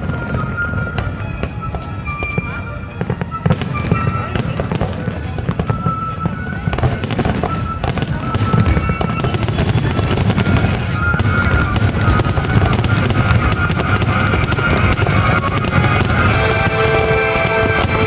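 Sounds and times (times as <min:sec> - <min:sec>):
fireworks crackling: 0:00.0 - 0:18.0
music playing: 0:00.0 - 0:18.0.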